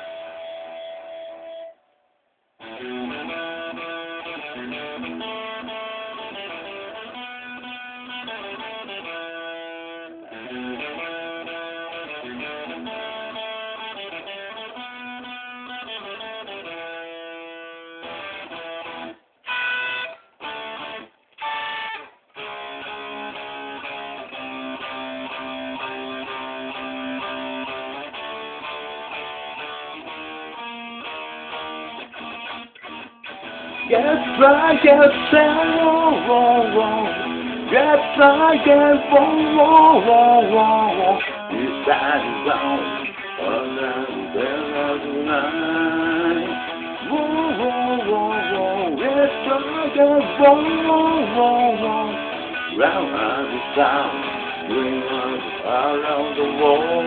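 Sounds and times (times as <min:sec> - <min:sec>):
guitar strumming chords: 0:00.0 - 0:01.8, 0:02.6 - 0:57.0.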